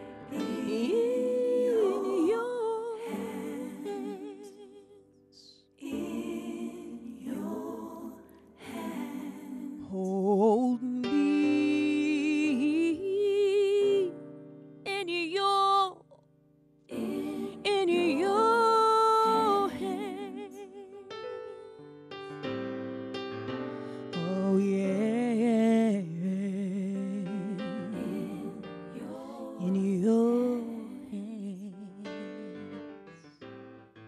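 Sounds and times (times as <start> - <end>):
woman singing gospel: 0.3 - 14.2, 14.9 - 16.0, 16.9 - 21.4, 24.2 - 32.0.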